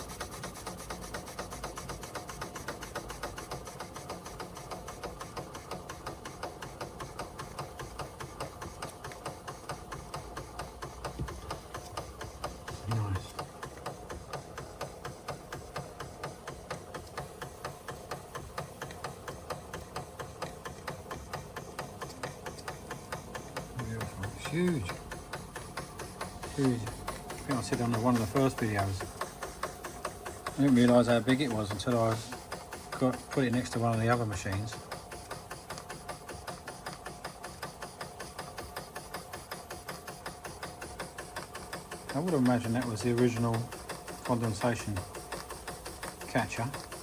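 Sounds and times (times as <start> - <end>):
toy steam engine chuffing: 0.0 - 47.0.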